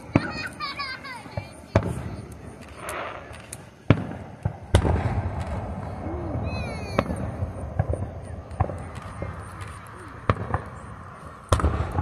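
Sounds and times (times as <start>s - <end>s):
fireworks bursting: 0.0s - 12.0s
low rumbling echo: 1.5s - 12.0s.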